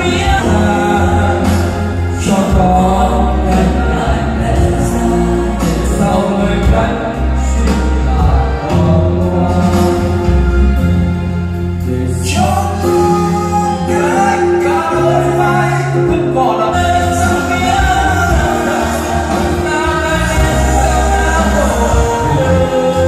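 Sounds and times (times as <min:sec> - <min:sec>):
song with singing and bass line: 0:00.0 - 0:23.0.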